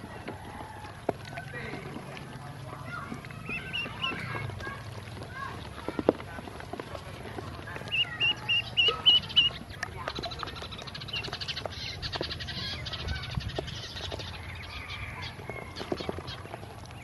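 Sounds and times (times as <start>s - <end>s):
bills pecking in plastic basin: 0.0s - 17.0s
dabbling in water: 0.0s - 17.0s
ducklings peeping: 0.0s - 17.0s.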